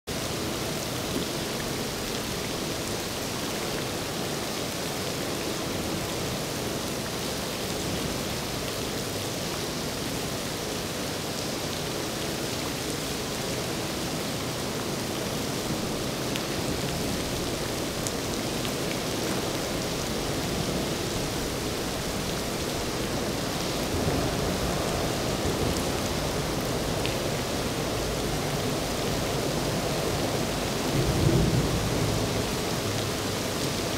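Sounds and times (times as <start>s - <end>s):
heavy rain hiss: 0.1s - 33.9s.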